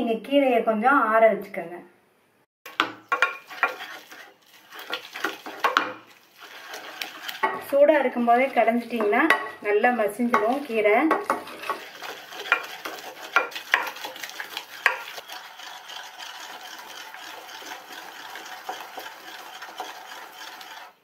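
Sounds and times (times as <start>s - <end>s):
wet churning and scraping in pot: 2.6s - 21.0s.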